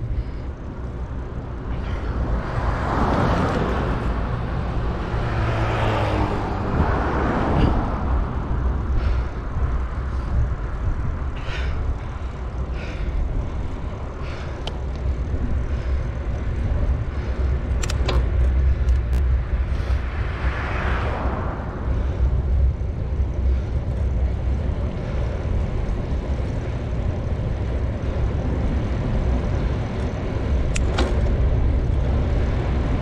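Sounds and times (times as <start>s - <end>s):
cars passing by: 0.0s - 33.0s
wind rumbling on microphone: 0.0s - 33.0s.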